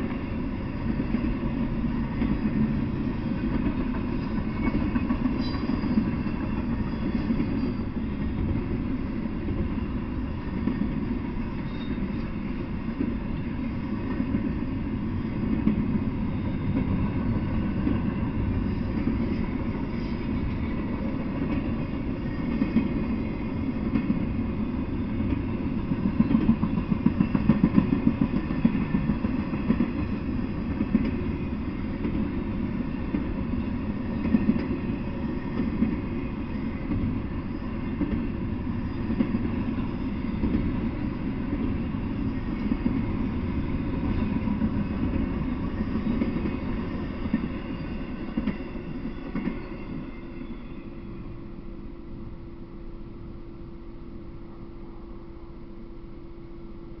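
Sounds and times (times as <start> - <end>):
train cars clanking: 0.0 - 51.3
train wheels rumbling on rail: 0.0 - 57.0.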